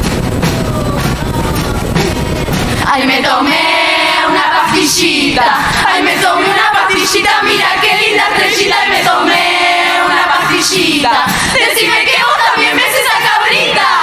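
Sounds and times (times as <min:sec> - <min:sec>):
chorus singing through loudspeakers: 0:00.0 - 0:14.0.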